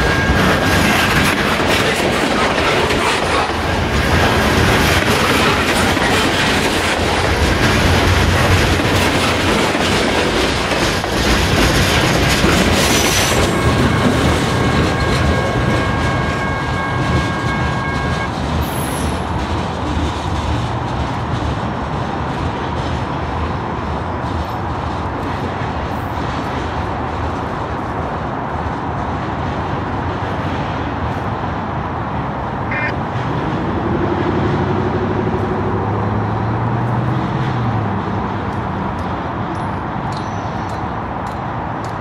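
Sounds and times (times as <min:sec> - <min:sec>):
freight train rumble: 0:00.0 - 0:42.0
road traffic: 0:00.0 - 0:42.0.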